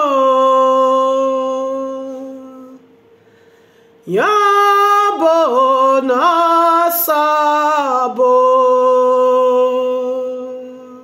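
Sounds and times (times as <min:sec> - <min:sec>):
woman singing unaccompanied: 0:00.0 - 0:02.9, 0:04.1 - 0:11.0.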